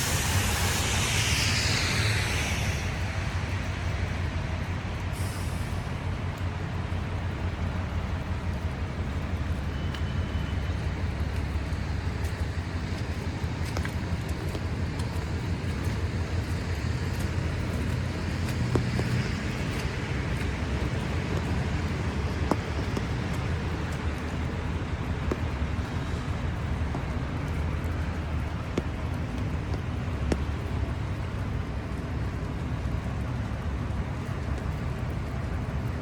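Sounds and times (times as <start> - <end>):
street traffic rumble: 0.0 - 36.0.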